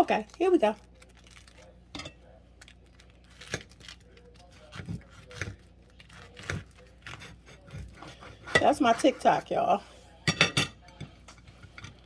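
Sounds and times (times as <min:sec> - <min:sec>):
food rustling: 0:00.0 - 0:10.2.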